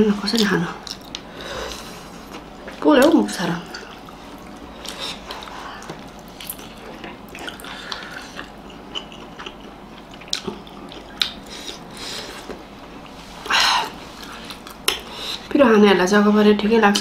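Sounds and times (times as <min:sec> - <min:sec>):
people chewing food: 0:00.2 - 0:15.5.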